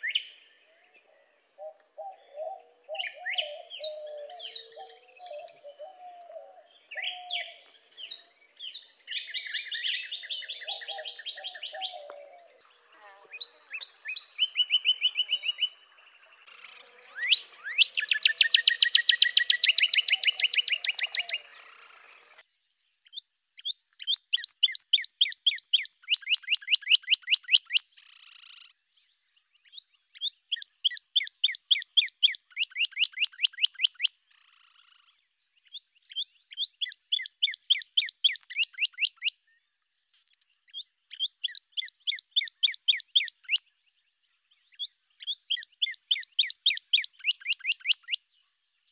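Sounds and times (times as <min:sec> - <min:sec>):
bird singing down-slurred whistles: 0:00.0 - 0:00.9, 0:01.6 - 0:12.6, 0:13.3 - 0:22.4, 0:23.0 - 0:28.7, 0:29.6 - 0:39.6, 0:40.7 - 0:48.3.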